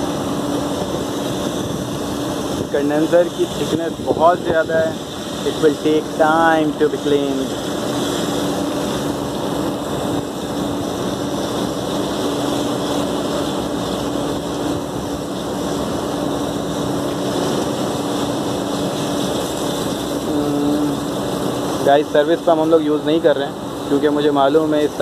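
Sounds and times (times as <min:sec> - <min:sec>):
chiller machine drone: 0:00.0 - 0:25.0
hose water hissing on metal fins: 0:00.0 - 0:25.0.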